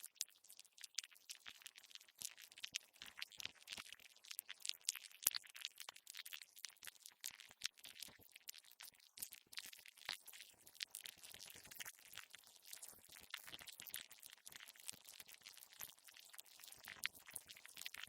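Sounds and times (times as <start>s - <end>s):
insects clicking and crackling: 0.0s - 18.0s.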